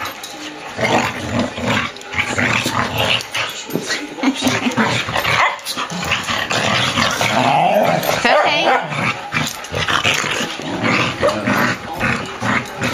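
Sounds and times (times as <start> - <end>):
dogs growling: 0.0 - 12.9
dogs barking: 1.9 - 12.9.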